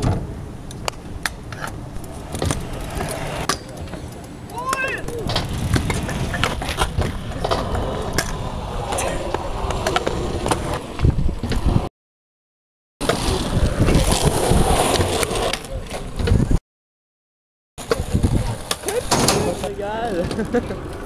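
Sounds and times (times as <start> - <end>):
scooter wheels rolling on concrete: 0.2 - 11.9, 13.0 - 16.6, 17.8 - 21.0.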